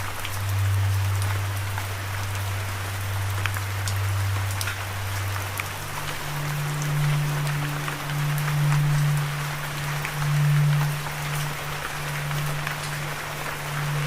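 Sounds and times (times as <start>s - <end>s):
low drone tone: 0.0s - 14.0s
raindrop ticks: 0.0s - 14.0s
steady rain falling: 0.0s - 14.0s.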